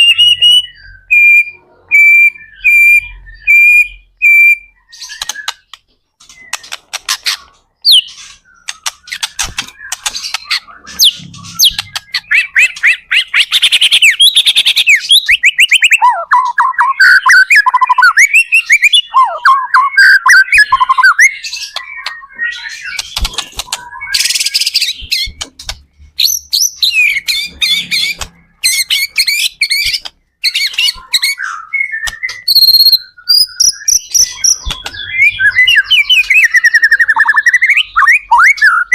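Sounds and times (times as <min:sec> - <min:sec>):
bird singing whistles and trills: 0:00.0 - 0:07.0, 0:07.8 - 0:25.4, 0:26.2 - 0:38.9.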